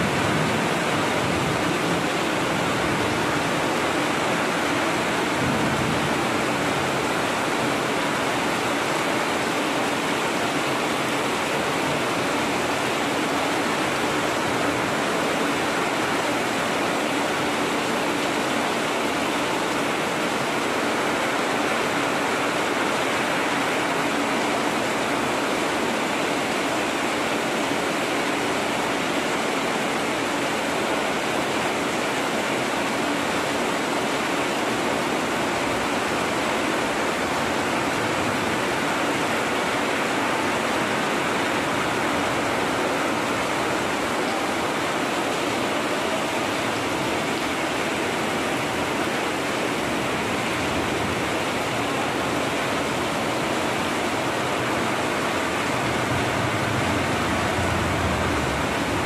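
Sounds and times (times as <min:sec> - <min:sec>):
heavy rain on metal roofs: 0:00.0 - 0:59.0
water streaming off roof: 0:00.0 - 0:59.0.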